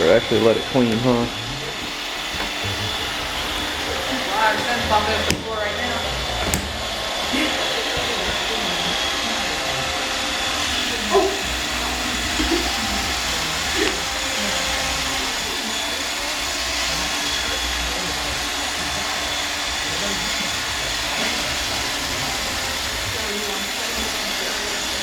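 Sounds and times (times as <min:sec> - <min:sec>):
robot vacuum whirring: 0:00.0 - 0:25.0.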